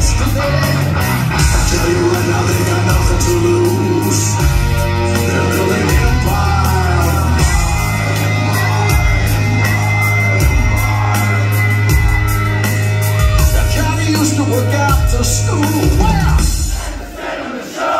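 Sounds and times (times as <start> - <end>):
man singing: 0.0 - 12.0, 13.3 - 16.7
electric guitars: 0.0 - 16.7
bass guitar: 0.0 - 16.8
drums: 0.0 - 17.9.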